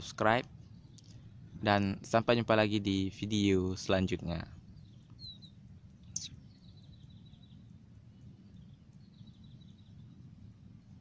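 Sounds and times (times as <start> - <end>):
faint bird chirping: 0.0 - 11.0
low outdoor rumble: 0.0 - 11.0.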